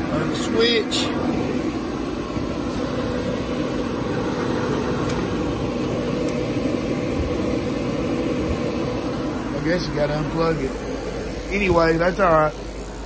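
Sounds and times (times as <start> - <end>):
propane heater fan and burner: 0.0 - 13.0.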